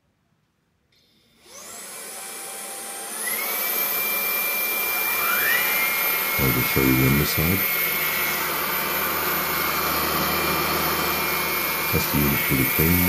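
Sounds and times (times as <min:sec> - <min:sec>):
stick vacuum motor whining: 0:01.4 - 0:13.0.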